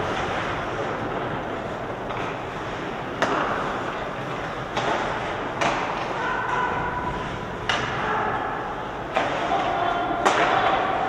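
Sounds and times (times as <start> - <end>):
hockey sticks and puck cracking: 0.0 - 11.0
skating and arena noise: 0.0 - 11.0.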